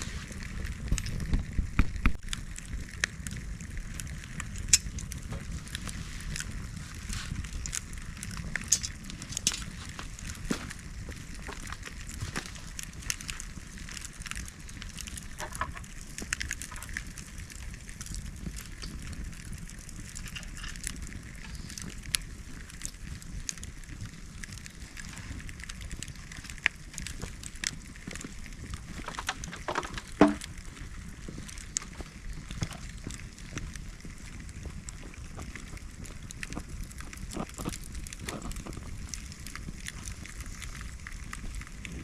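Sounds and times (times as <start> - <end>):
bonfire crackling and popping: 0.0 - 42.0.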